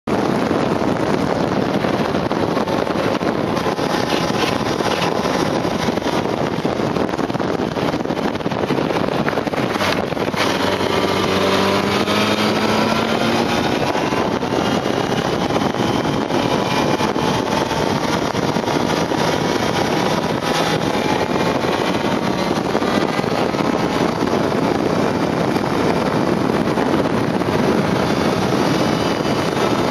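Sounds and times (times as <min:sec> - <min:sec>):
motorcycle engine accelerating: 0:00.0 - 0:29.9
wind rushing over microphone: 0:00.0 - 0:29.9.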